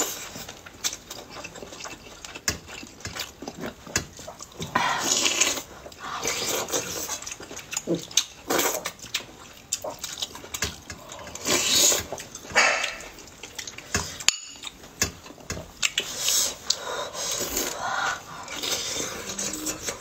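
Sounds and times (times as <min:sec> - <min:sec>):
slurping: 0:00.0 - 0:14.3, 0:15.8 - 0:20.0
chewing and lip smacks: 0:00.0 - 0:20.0.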